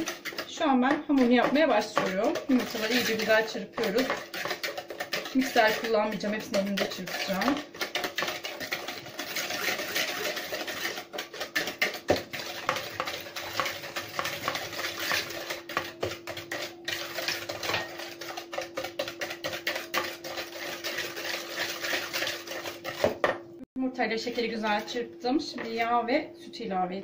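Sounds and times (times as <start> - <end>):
whisk beating in a bowl: 0.0 - 23.5.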